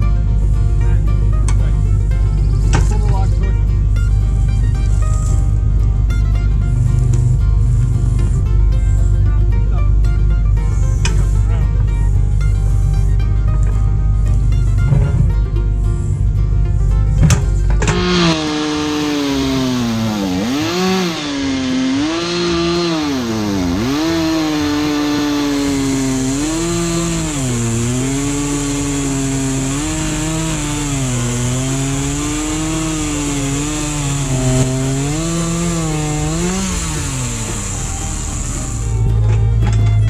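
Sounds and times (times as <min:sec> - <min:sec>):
chainsaw cutting wood: 0:00.0 - 0:09.0, 0:10.6 - 0:15.4, 0:17.1 - 0:40.0.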